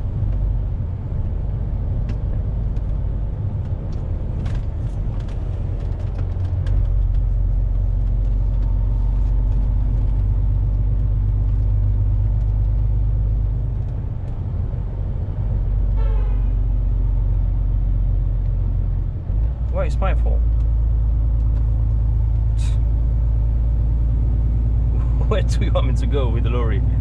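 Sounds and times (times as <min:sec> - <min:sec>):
lorry engine and road rumble: 0:00.0 - 0:27.0.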